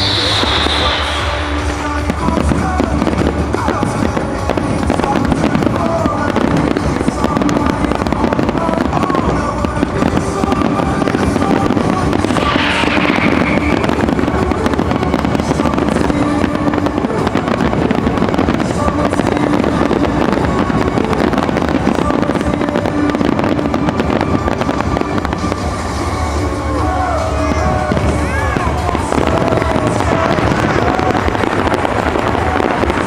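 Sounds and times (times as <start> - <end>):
fireworks bursting and crackling: 0.0 - 33.0
show music: 0.0 - 33.0.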